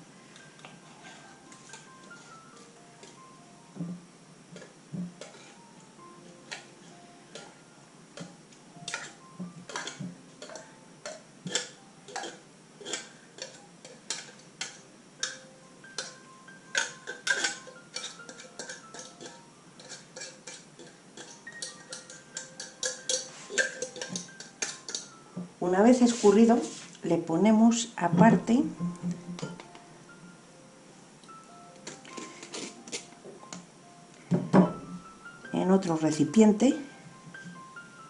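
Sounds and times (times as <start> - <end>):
faint background music: 0.0 - 38.0.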